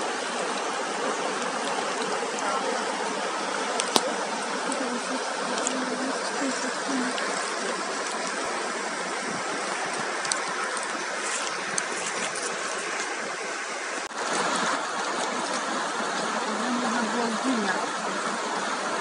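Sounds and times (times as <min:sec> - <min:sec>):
river rushing over rapids: 0:00.0 - 0:19.0.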